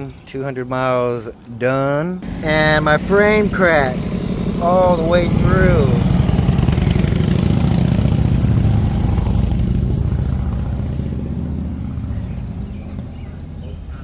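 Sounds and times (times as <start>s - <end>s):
motorcycle engine running: 2.2s - 14.0s.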